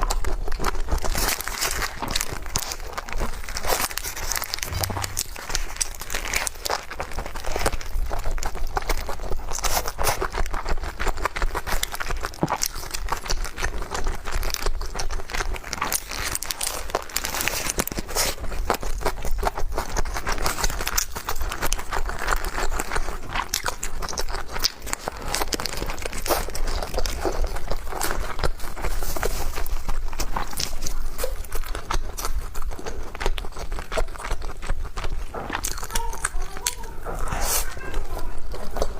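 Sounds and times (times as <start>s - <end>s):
chewing and mouth noises: 0.0s - 38.9s.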